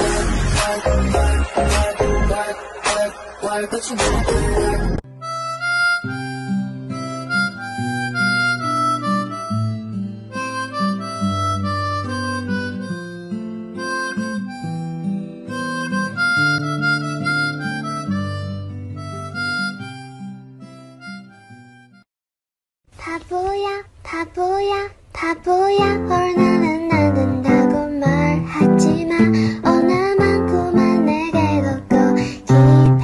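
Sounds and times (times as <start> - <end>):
instrumental background music: 0.0 - 22.0, 25.8 - 33.0.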